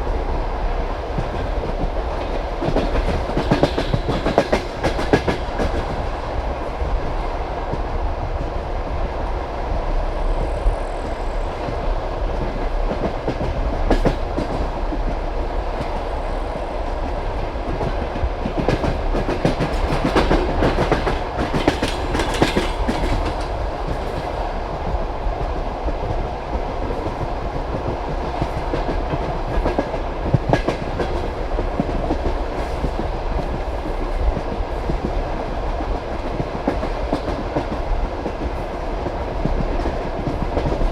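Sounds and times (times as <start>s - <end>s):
train rolling rumble: 0.0s - 40.9s
train wheels clacking on rails: 0.0s - 40.9s.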